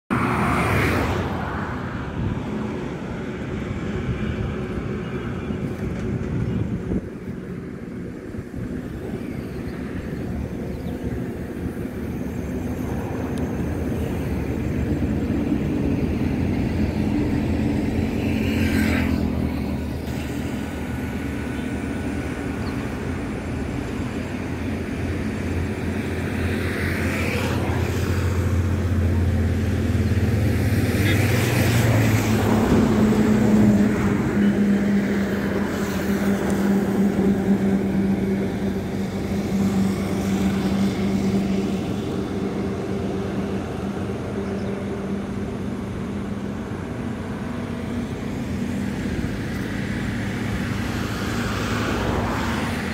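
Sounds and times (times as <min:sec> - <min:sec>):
vehicle engines passing by: 0:00.1 - 0:52.9.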